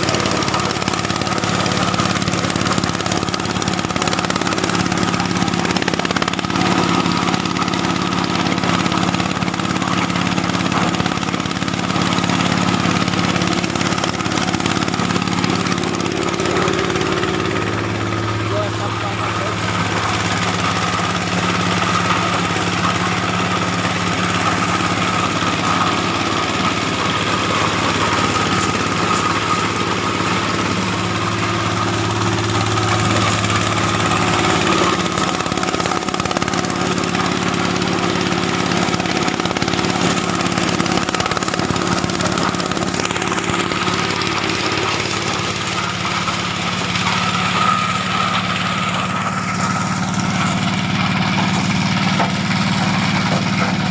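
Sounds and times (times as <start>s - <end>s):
corn sheller machine running: 0.0s - 53.9s
engine running: 0.0s - 53.9s.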